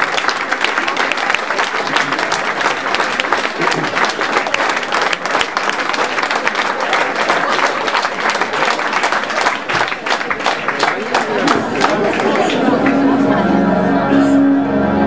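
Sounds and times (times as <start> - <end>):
audience applauding: 0.0 - 13.3
crowd voices: 0.0 - 15.0.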